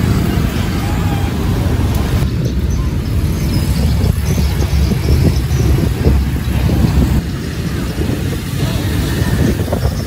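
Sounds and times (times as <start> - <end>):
cars and scooters passing: 0.0 - 10.0.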